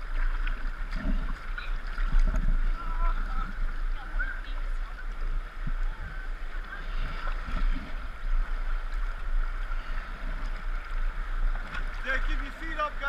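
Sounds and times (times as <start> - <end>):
river water rushing and sloshing: 0.0 - 13.0
water buffeting microphone: 0.0 - 13.0.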